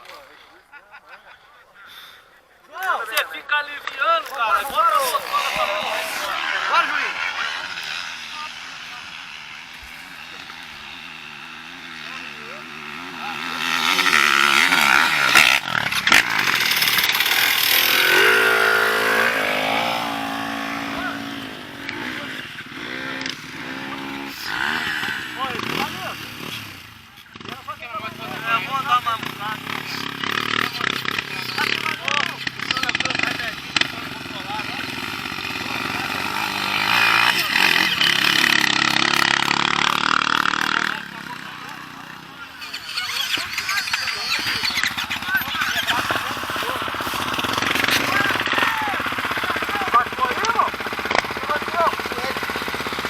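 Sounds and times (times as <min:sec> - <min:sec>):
dirt bike engine revving: 0:02.9 - 0:53.0.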